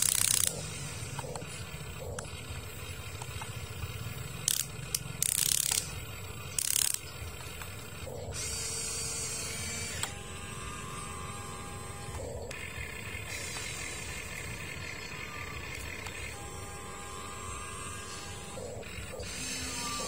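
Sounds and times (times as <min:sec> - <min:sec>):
small motors whirring and ratcheting: 0:00.0 - 0:20.0
steady motor whine: 0:00.0 - 0:20.0.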